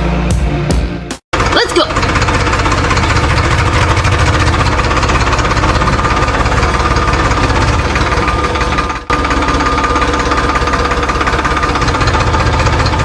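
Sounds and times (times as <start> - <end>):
small tractor engine knocking: 1.3 - 13.0.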